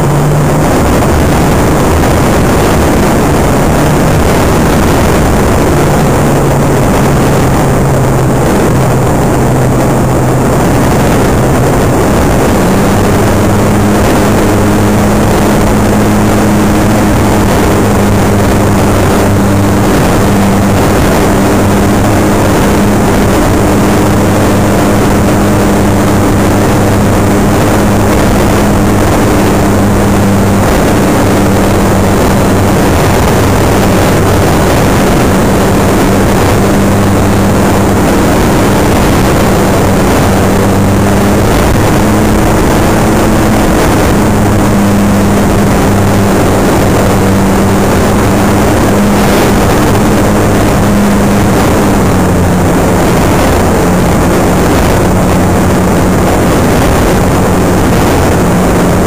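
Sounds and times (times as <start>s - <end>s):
model plane motor humming: 0.0s - 59.0s.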